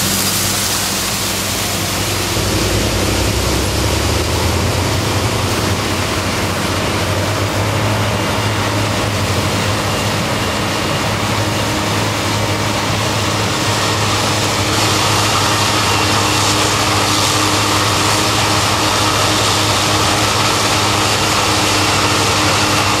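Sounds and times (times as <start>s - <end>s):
farm machinery diesel engine drone: 0.0s - 23.0s.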